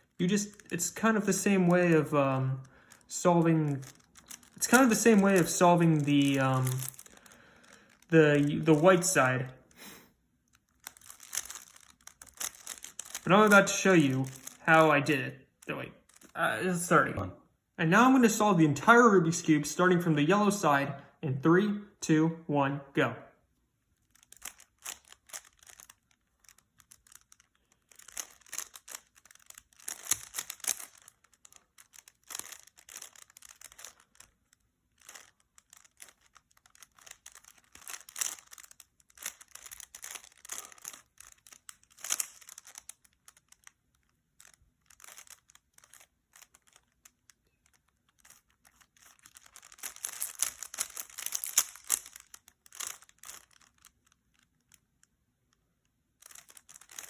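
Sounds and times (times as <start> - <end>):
puzzle cube clicking: 0.0 - 14.8, 24.2 - 54.8, 56.2 - 57.0.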